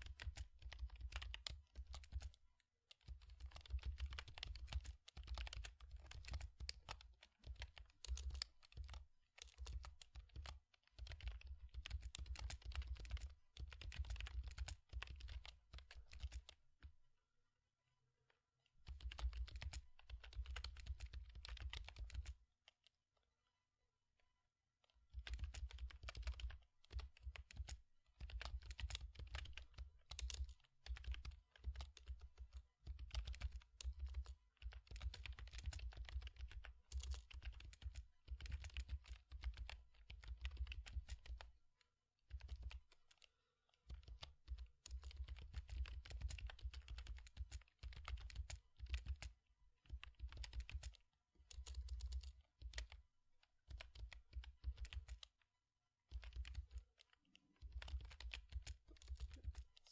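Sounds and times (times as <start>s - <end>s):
typing on computer keyboard: 0.0s - 16.9s, 18.8s - 22.5s, 24.9s - 41.6s, 42.2s - 55.4s, 56.0s - 59.9s.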